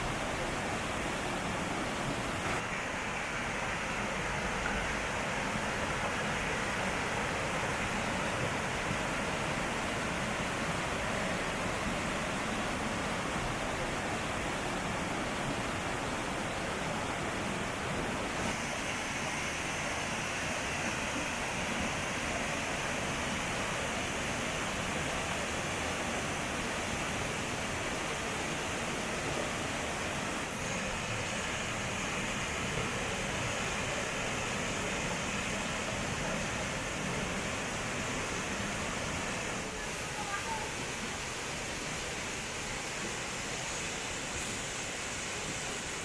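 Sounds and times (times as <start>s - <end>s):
stream rushing over boulders: 0.0s - 46.0s.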